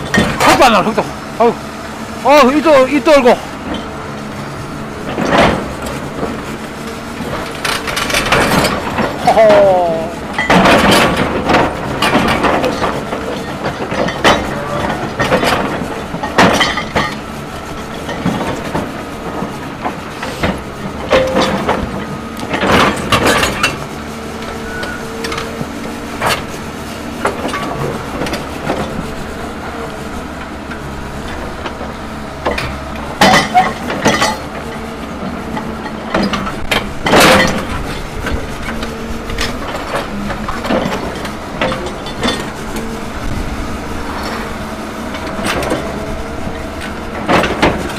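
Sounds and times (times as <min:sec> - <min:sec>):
excavator engine under load: 0:00.0 - 0:47.9.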